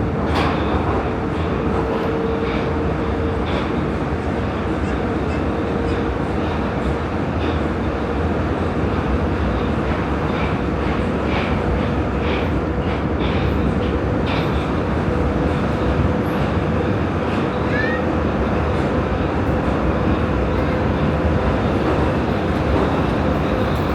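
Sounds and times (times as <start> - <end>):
train rumbling through tunnel: 0.0 - 23.9.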